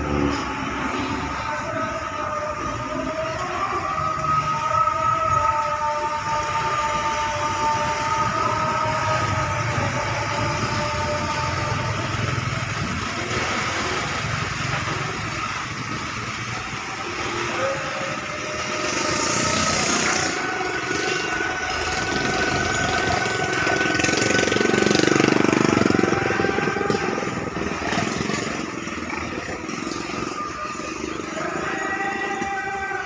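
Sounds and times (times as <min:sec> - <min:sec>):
bus engine rumbling: 0:00.0 - 0:33.0.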